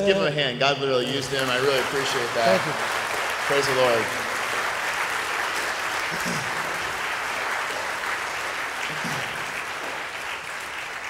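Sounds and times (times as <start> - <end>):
congregation applauding: 1.0 - 11.0.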